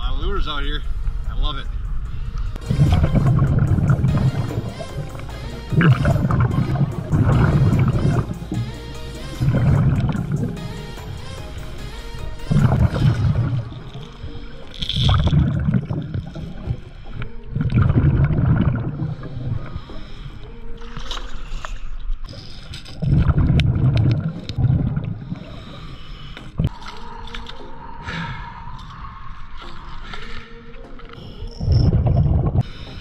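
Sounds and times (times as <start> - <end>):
water gurgling and sloshing: 0.0 - 33.0.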